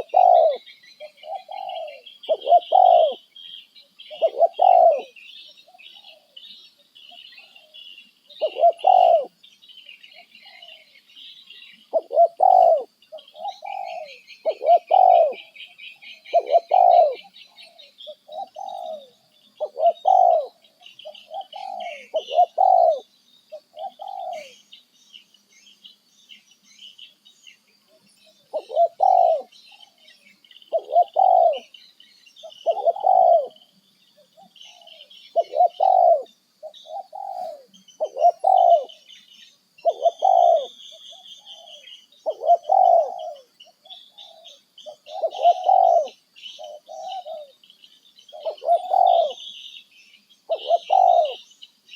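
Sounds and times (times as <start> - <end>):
high twittering of small birds: 0.0 - 51.9.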